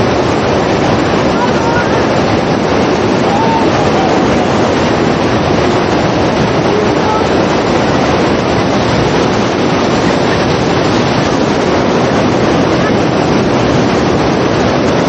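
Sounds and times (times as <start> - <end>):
water rushing roar: 0.0 - 15.0.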